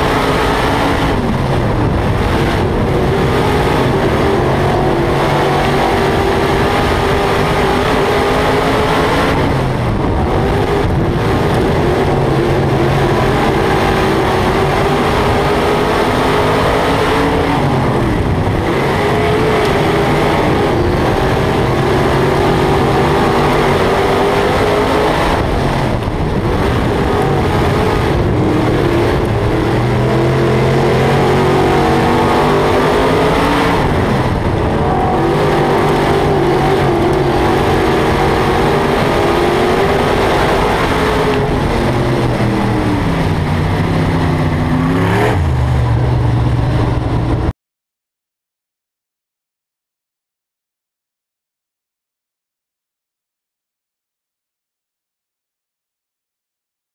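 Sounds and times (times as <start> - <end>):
race car engine revving: 0.0 - 47.5.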